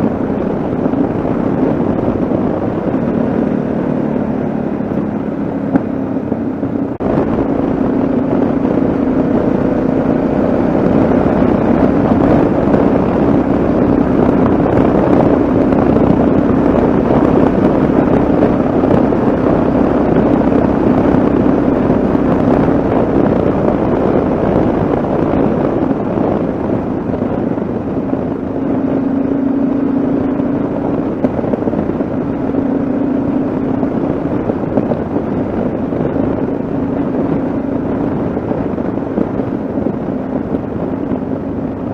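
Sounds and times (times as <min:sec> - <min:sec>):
motorcycle engine cruising: 0:00.0 - 0:41.9
wind and road noise: 0:00.0 - 0:41.9.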